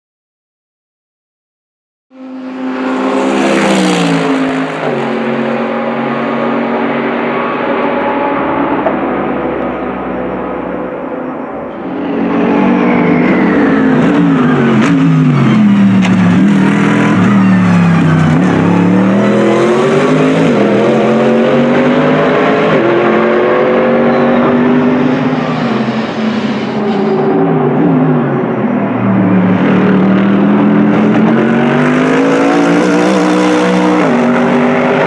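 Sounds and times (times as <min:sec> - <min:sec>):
race car engine revving: 0:02.2 - 0:35.0.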